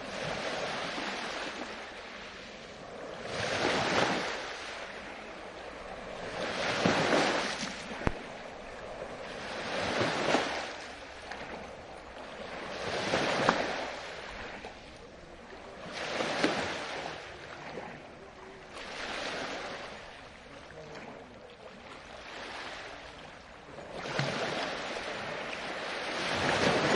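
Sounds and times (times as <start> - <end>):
water sloshing: 0.0 - 26.9.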